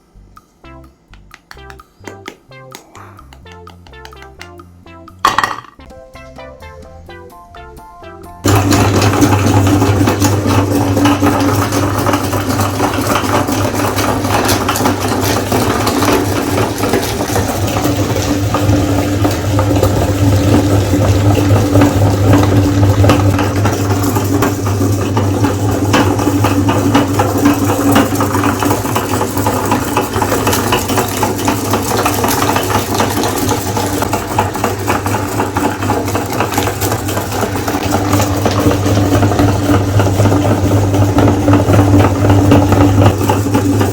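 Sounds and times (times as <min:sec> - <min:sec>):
meat grinder motor humming: 0:08.4 - 0:43.9
rattling and crackling grinding: 0:08.4 - 0:43.9.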